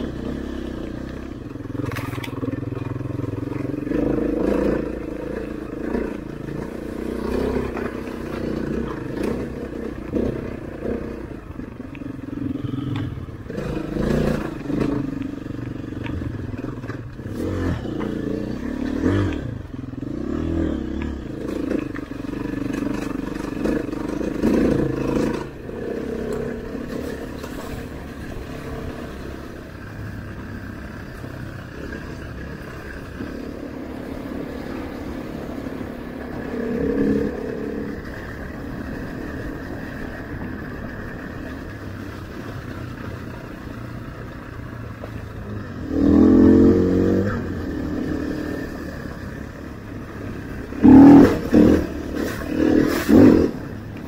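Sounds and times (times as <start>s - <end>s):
dirt bike engine revving: 0.0s - 29.6s, 31.7s - 39.9s, 45.6s - 53.8s.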